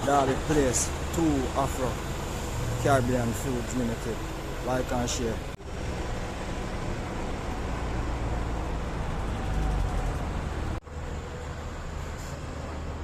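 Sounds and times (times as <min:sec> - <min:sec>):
street traffic engine rumble: 0:00.0 - 0:13.0.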